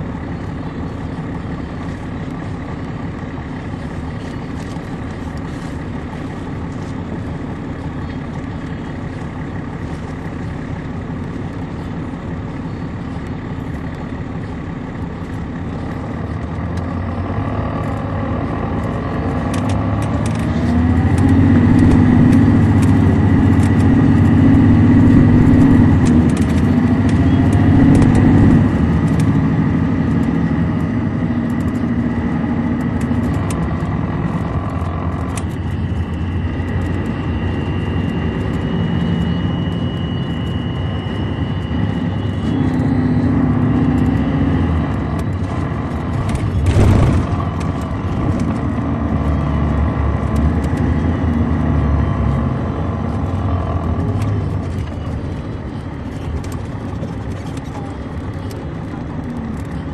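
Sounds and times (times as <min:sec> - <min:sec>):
diesel bus engine accelerating: 0:00.0 - 0:59.9
transmission whine: 0:00.0 - 0:59.9.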